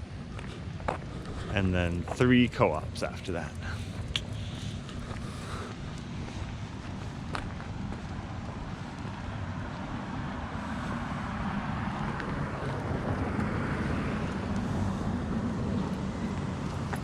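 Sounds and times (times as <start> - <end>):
car passing: 0.0 - 17.0
steady low hum: 0.0 - 17.0.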